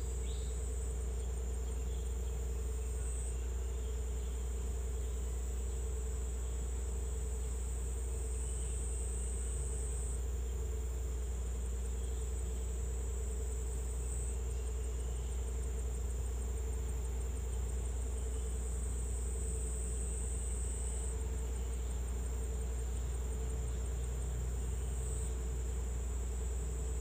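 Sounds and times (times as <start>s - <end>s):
fast pulsing insect trill: 0.0s - 27.0s
high-pitched insect chorus: 0.0s - 27.0s
low steady rumble: 0.0s - 27.0s.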